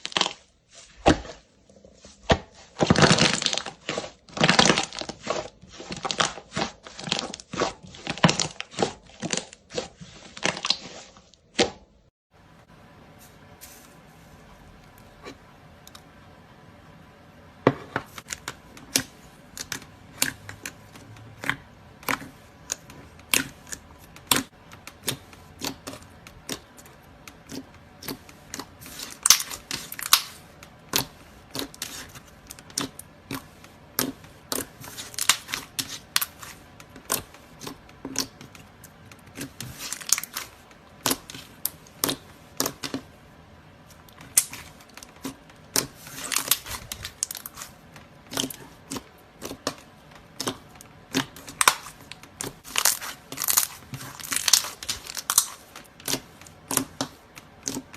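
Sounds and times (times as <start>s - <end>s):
slime crackling: 0.0s - 11.2s, 18.2s - 57.9s.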